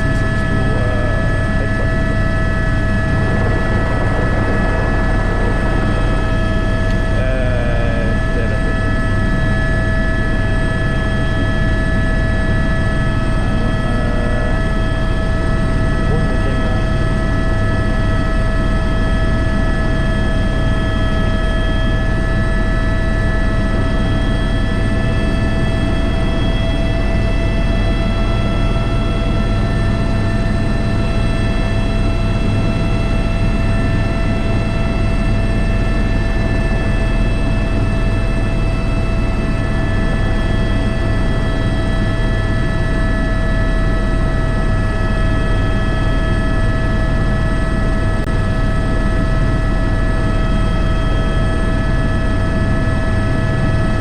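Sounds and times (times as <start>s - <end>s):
helicopter rotor and engine drone: 0.0s - 54.0s
high turbine whines: 0.0s - 54.0s.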